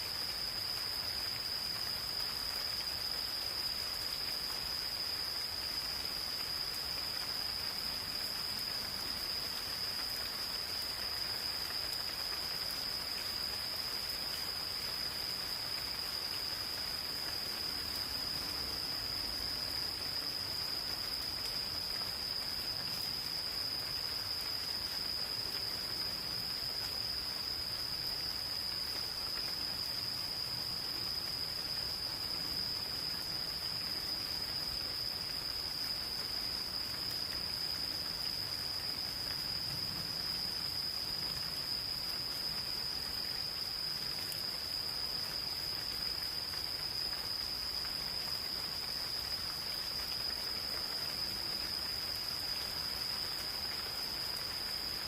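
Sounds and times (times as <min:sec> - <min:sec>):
insects trilling: 0:00.0 - 0:55.0
light rain hiss: 0:00.0 - 0:55.0.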